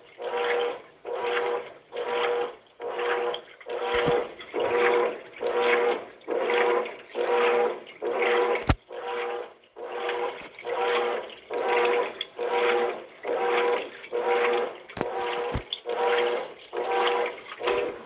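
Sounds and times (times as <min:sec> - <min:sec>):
washing machine agitating: 0:00.0 - 0:18.0.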